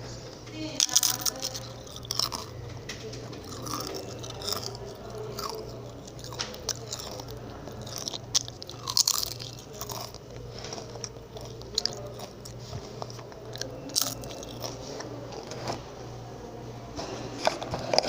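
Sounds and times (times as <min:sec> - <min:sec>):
quiet chewing: 0:00.2 - 0:16.0, 0:16.9 - 0:18.0
cookies crunching: 0:00.6 - 0:16.0, 0:16.9 - 0:18.0.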